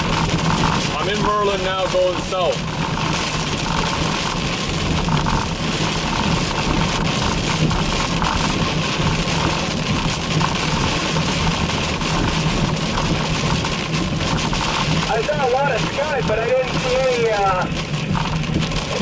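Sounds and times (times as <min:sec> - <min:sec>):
car engine and road drone: 0:00.0 - 0:19.0
rain spattering on car: 0:00.0 - 0:19.0.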